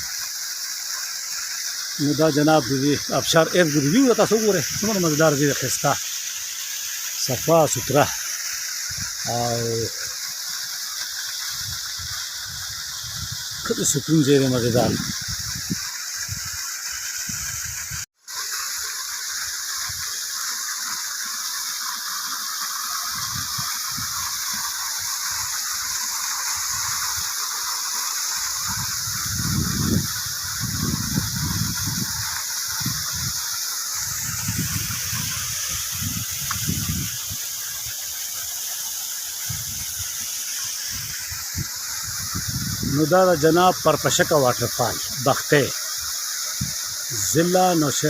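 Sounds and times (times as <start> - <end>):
waterfall rushing: 0.8 - 22.3, 22.9 - 48.0.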